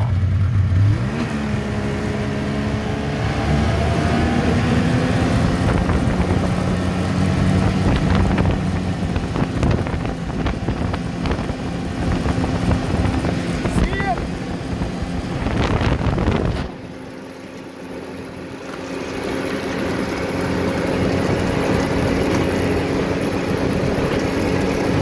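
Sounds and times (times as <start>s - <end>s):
snowmobile engine running: 0.0s - 25.0s
wind buffeting microphone: 2.2s - 25.0s.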